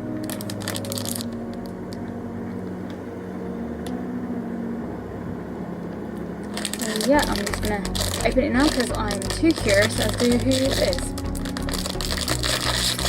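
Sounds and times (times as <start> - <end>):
ambient synth chords: 0.0 - 13.0.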